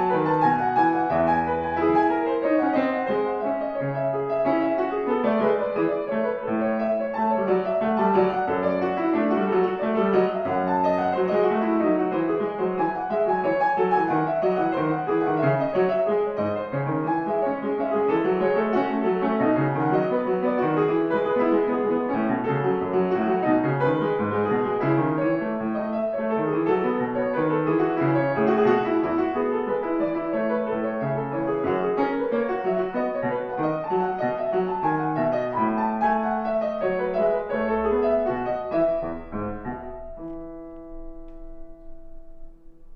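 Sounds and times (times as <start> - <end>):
grand piano playing: 0.0 - 42.9.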